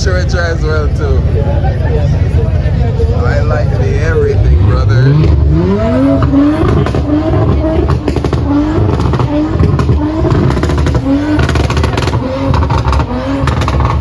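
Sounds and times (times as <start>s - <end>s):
car engine revving: 0.0s - 14.0s
exhaust crackles: 0.0s - 14.0s
low exhaust rumble: 0.0s - 14.0s.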